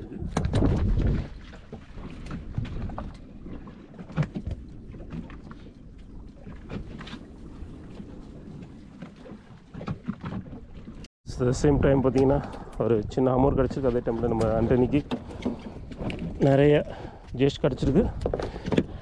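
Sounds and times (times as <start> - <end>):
water noise: 0.0 - 19.0
wind: 0.0 - 19.0.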